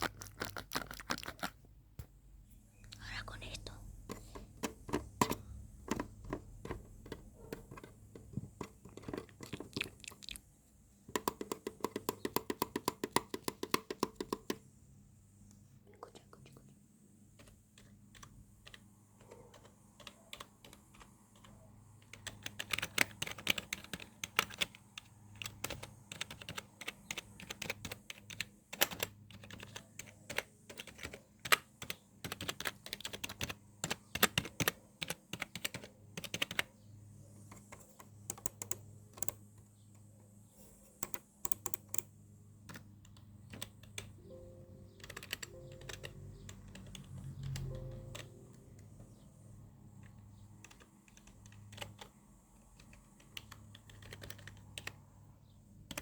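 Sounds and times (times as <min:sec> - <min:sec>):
faint low hum: 0:00.0 - 0:11.4, 0:14.4 - 0:56.0
keyboard typing: 0:03.0 - 0:10.3, 0:11.1 - 0:14.7, 0:17.3 - 0:36.8, 0:37.4 - 0:39.6, 0:40.8 - 0:55.2, 0:55.8 - 0:56.0.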